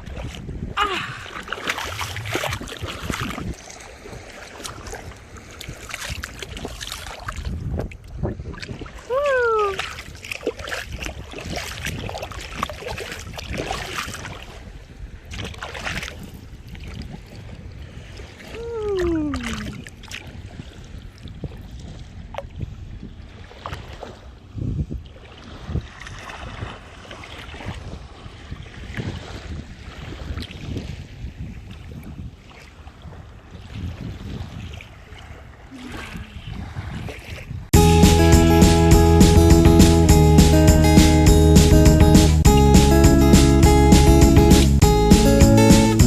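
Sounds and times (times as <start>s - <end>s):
sea water sloshing and splashing: 0.0s - 37.7s
wind buffeting microphone: 0.0s - 37.8s.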